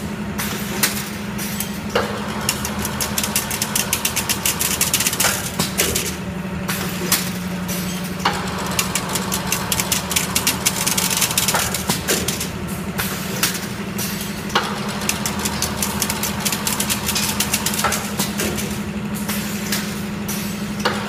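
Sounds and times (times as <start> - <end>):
fence weaving machine hum: 0.0 - 21.0
machine clattering: 0.5 - 21.0
sharp machine clank: 1.8 - 21.0.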